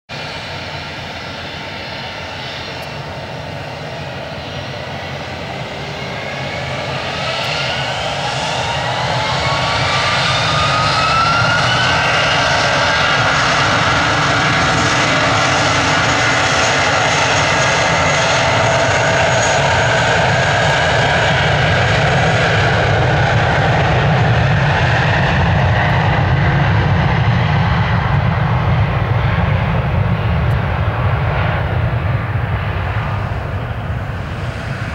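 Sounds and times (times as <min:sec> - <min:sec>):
jet engines spooling up: 0:00.2 - 0:34.9.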